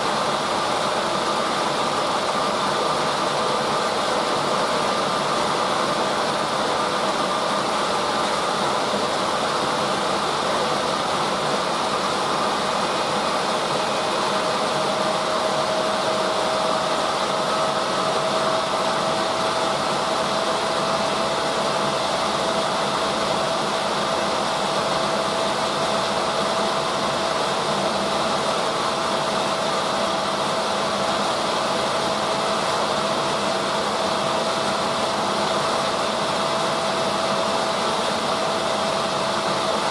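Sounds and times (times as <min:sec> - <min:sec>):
washing machine drum whirring: 0:00.0 - 0:39.9.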